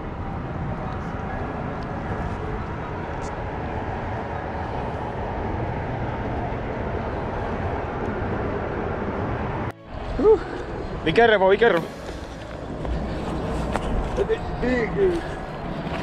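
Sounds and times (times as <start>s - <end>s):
rumbling outdoor background noise: 0.0s - 16.0s.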